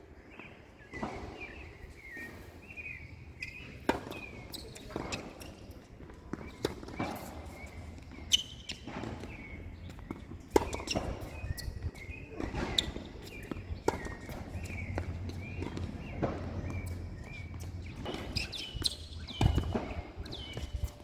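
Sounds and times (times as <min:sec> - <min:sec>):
footsteps on tennis court: 0:00.2 - 0:21.0
short high shoe squeaks: 0:00.9 - 0:21.0
tennis ball hit and bouncing: 0:03.6 - 0:21.0.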